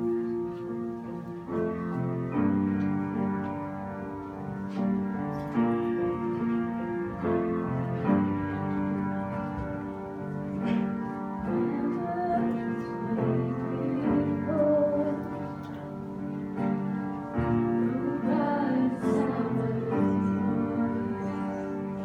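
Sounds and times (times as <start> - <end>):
piano playing sustained chords: 0.0 - 22.0.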